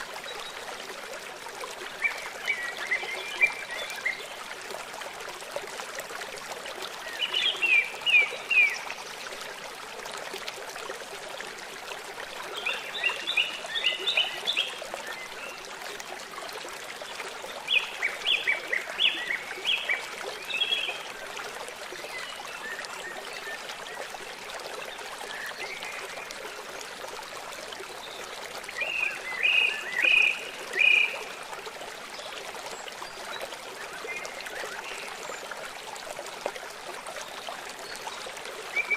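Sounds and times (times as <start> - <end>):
river running: 0.0 - 38.9.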